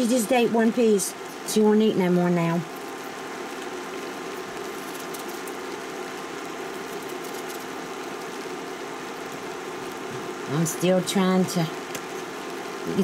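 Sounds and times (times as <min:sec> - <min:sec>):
electric burner humming: 0:00.0 - 0:13.0.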